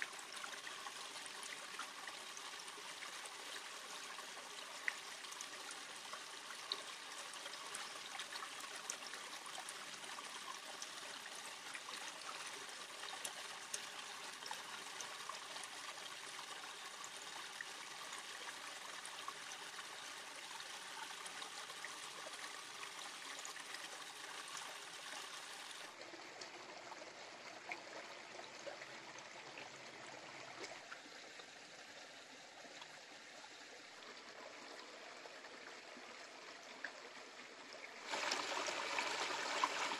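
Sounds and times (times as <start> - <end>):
stream water running over rocks: 0.0 - 39.9.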